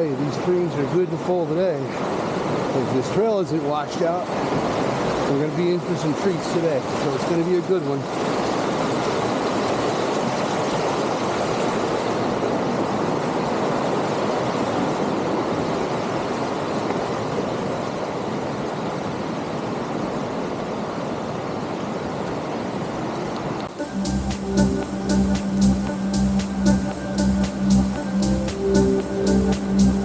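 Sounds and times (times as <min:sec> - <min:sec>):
woodland stream rushing: 0:00.0 - 0:30.0.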